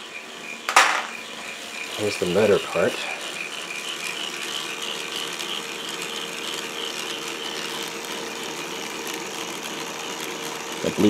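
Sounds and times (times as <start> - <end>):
electric motor whirring: 0.0 - 11.0.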